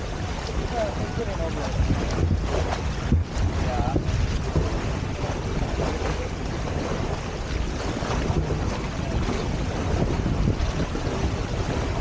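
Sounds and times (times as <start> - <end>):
water rushing along hulls: 0.0 - 12.0
wind buffeting microphone: 0.0 - 12.0.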